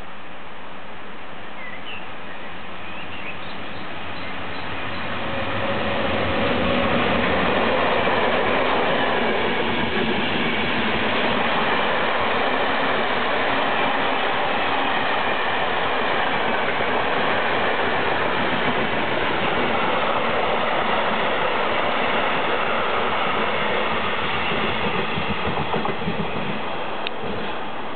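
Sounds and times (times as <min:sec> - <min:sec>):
train wheels rushing on rail: 0:02.6 - 0:27.9.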